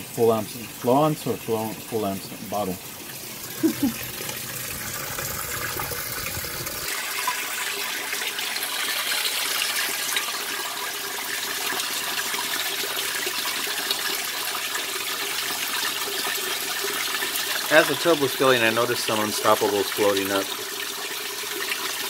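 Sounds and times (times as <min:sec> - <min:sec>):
water pouring into washer tub: 0:00.0 - 0:22.0.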